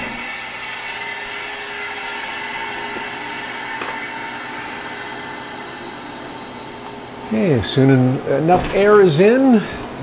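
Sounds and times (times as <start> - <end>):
air hissing into vacuum chamber: 0.0 - 8.5.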